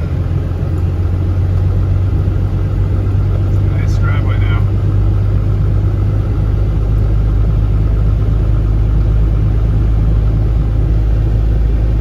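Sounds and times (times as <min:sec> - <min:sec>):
heavy machine engine humming: 0:00.0 - 0:12.0.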